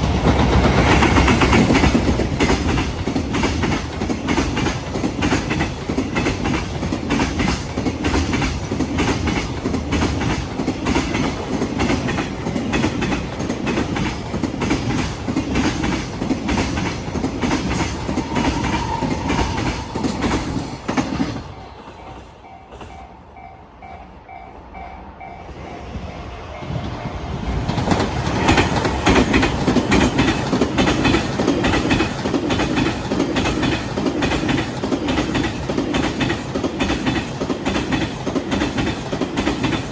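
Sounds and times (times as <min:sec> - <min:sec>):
train wheels clattering over rail joints: 0:00.0 - 0:23.0, 0:27.6 - 0:39.9.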